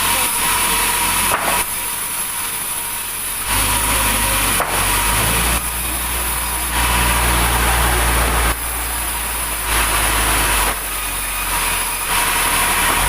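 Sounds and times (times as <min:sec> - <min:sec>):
mill engine humming: 0:00.0 - 0:13.0
saw cutting through wood: 0:00.0 - 0:13.0.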